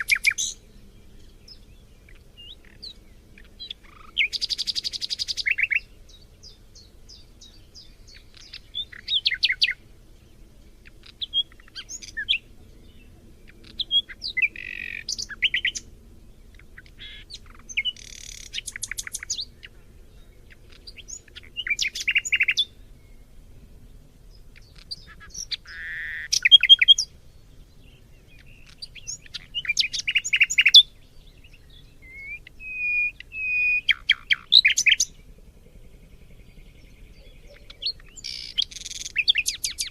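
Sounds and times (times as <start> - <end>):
faint low background hum: 0.0 - 39.9
songbirds trilling and chirping: 0.0 - 39.9.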